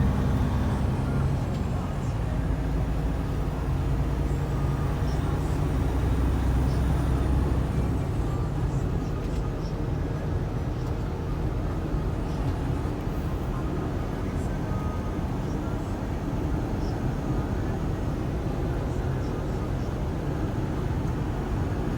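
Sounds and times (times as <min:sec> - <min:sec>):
road noise: 0:00.0 - 0:21.9
truck engine rumble: 0:00.0 - 0:21.9.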